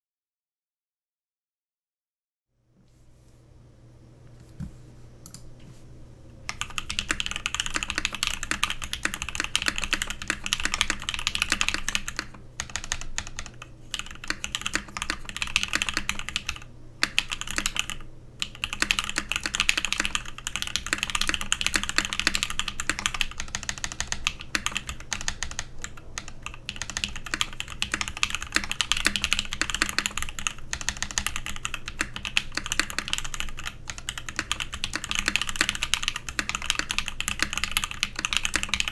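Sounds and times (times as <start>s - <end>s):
mechanical keyboard typing: 6.5s - 38.9s.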